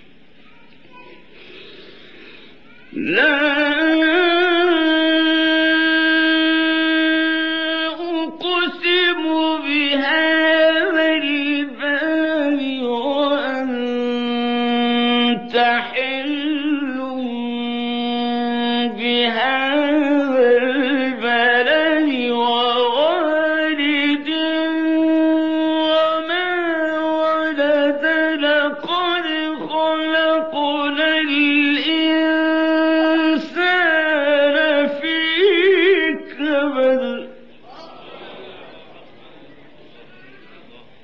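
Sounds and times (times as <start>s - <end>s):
man reciting melodically: 2.7s - 37.7s.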